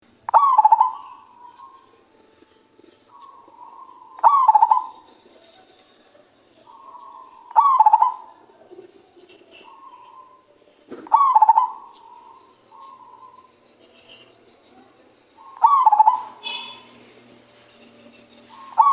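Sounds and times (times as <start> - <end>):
small birds chirping: 0.0 - 18.9
dove cooing: 0.3 - 2.1, 2.8 - 17.4, 18.0 - 18.9.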